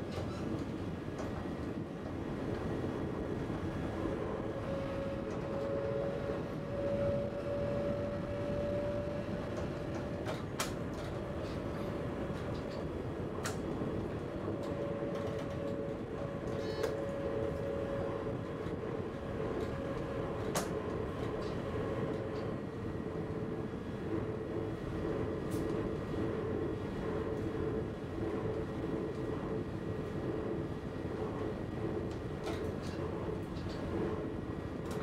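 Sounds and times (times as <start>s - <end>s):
continuous whine: 0.0s - 35.0s
train rumble: 0.0s - 35.0s.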